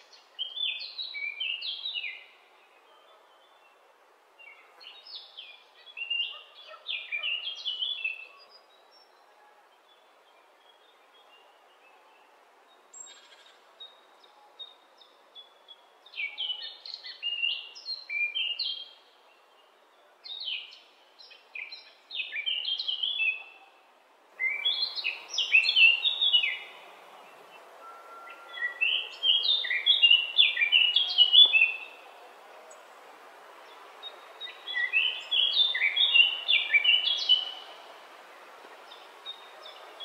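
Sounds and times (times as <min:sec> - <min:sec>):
songbird singing: 0:00.0 - 0:40.0
steady background hiss: 0:00.0 - 0:40.0.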